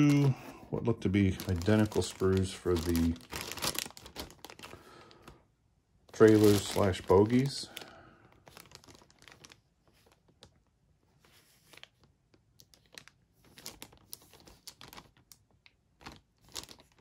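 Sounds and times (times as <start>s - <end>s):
plastic bags crinkling: 0.0s - 5.4s, 6.1s - 10.6s, 11.7s - 17.0s.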